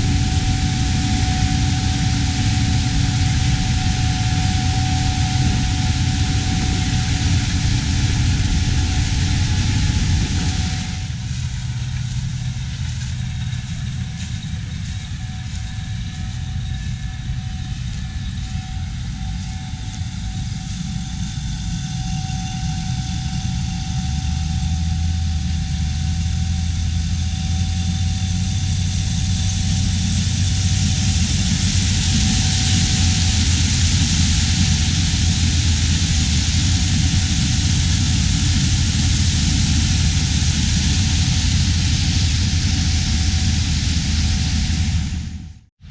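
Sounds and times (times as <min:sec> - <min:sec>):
large diesel engine running: 0:00.0 - 0:45.9.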